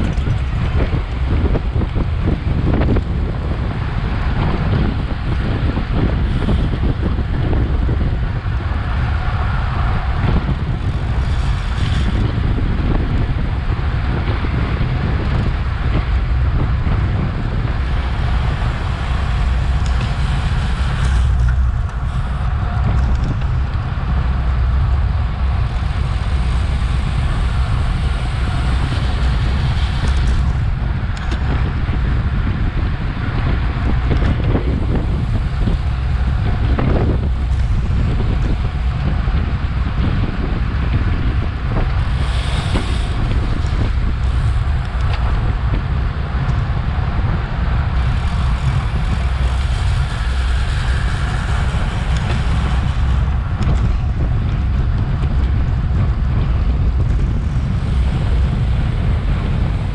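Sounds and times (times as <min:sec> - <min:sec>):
deep rumble: 0:00.0 - 0:59.9
wind buffeting microphone: 0:00.0 - 0:59.9.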